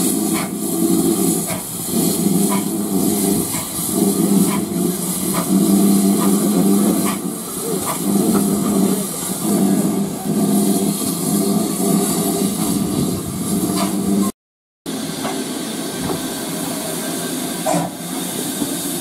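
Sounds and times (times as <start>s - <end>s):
steam locomotive chuffing: 0.0s - 14.3s, 14.9s - 19.0s.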